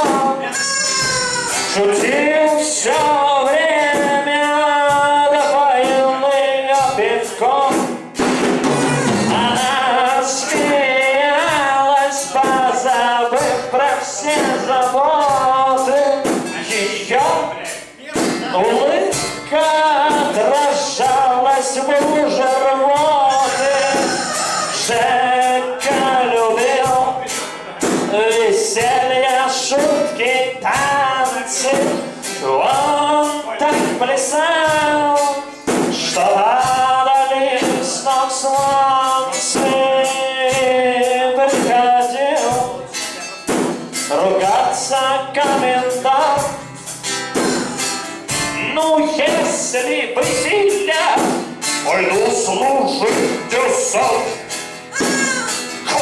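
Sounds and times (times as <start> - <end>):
man singing into microphone: 0.0 - 8.1, 8.8 - 43.2, 44.0 - 46.7, 47.8 - 56.0
strummed acoustic guitar: 0.0 - 56.0.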